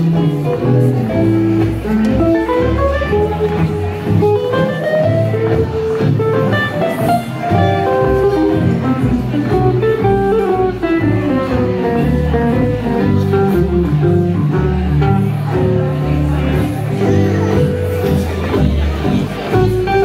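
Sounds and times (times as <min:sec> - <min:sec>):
plucked double bass: 0:00.0 - 0:20.0.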